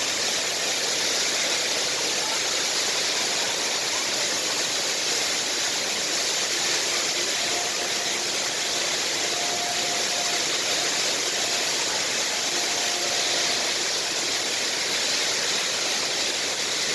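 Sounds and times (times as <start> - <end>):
waterfall roaring into pool: 0.0 - 16.9.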